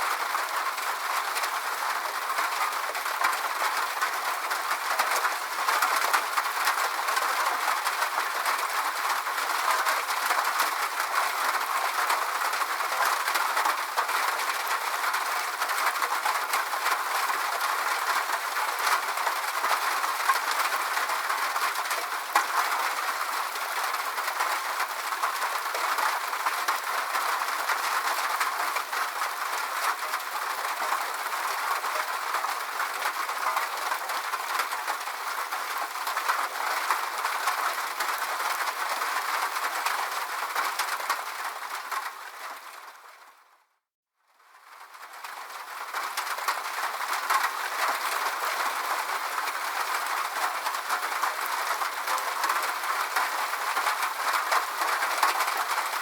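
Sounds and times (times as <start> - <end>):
steady rain: 0.0 - 43.6, 44.4 - 56.0.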